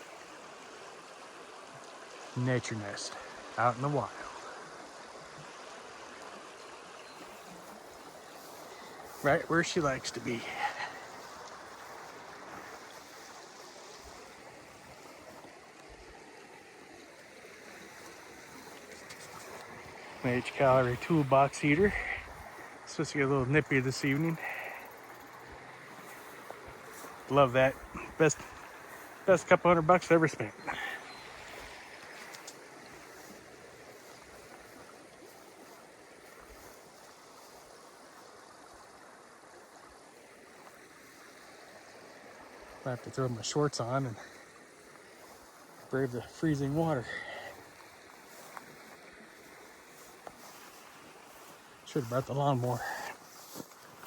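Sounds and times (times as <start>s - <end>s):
creek rushing: 0.0s - 54.0s.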